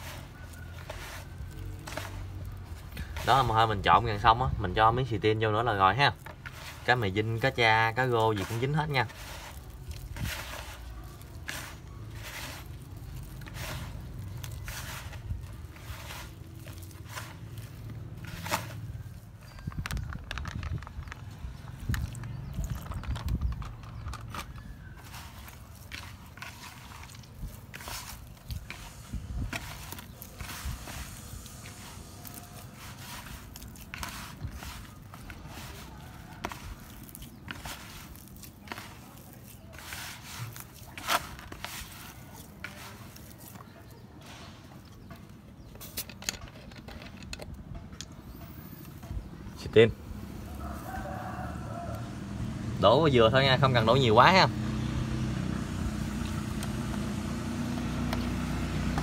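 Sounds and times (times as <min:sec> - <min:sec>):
hands kneading damp bait mash: 0:00.0 - 0:59.0.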